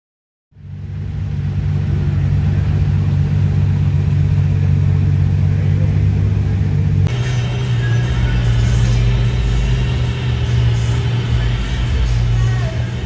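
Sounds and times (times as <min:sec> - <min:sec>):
car engine idling: 0:00.6 - 0:13.0.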